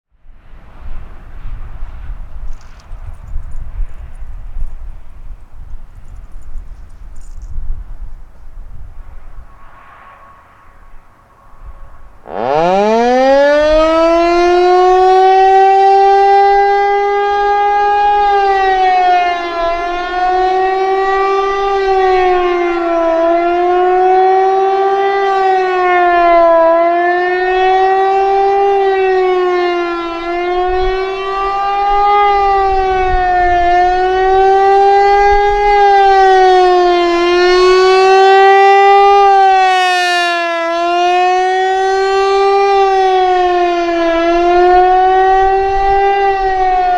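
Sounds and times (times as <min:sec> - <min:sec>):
tornado siren wailing: 0:08.9 - 0:46.9.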